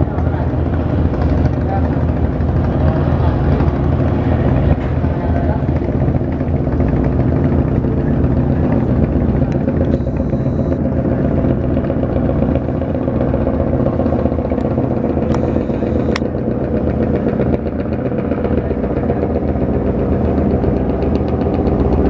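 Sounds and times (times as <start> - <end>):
boat diesel engine droning: 0.0 - 22.0.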